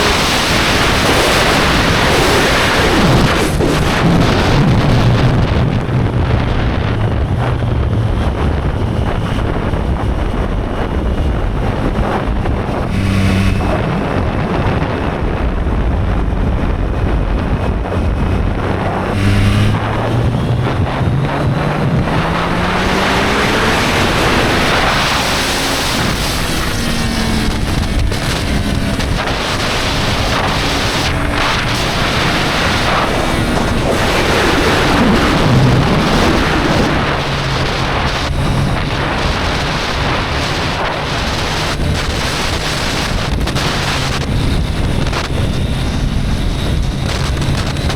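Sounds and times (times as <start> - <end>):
motorcycle engine accelerating: 0.0 - 47.9
wind on microphone: 0.0 - 47.9.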